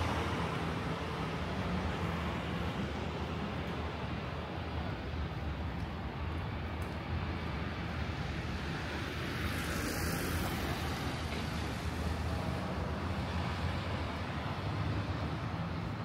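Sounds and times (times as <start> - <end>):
traffic engine rumble: 0.0 - 16.0
tyres hissing on wet road: 0.0 - 16.0.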